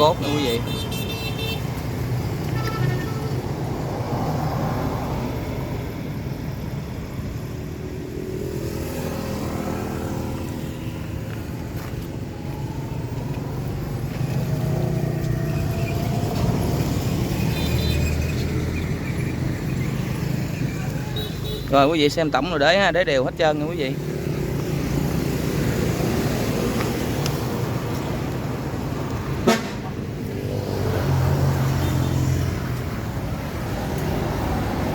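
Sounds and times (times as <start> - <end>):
vehicle engines passing: 0.0 - 34.9.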